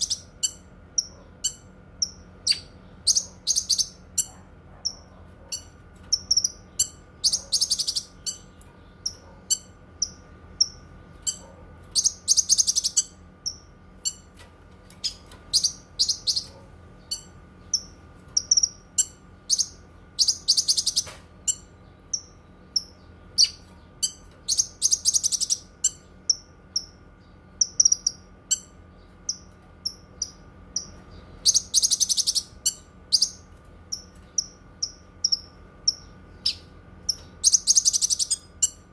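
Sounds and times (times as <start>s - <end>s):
faint steady hum: 0.0s - 38.9s
songbird singing: 0.0s - 38.9s.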